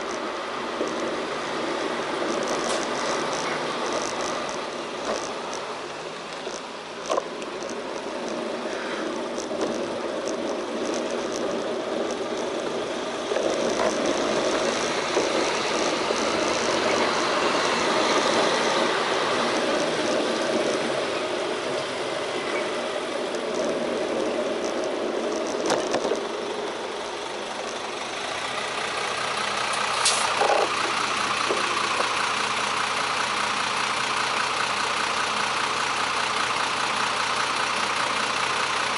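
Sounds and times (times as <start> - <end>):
car and truck engines idling: 0.0 - 38.9
passing traffic: 0.0 - 38.9.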